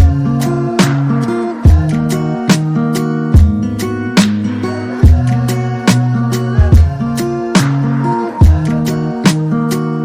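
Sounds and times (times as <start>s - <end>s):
steady drum beat: 0.0s - 9.5s
bass line: 0.0s - 9.8s
guitar: 0.0s - 10.0s.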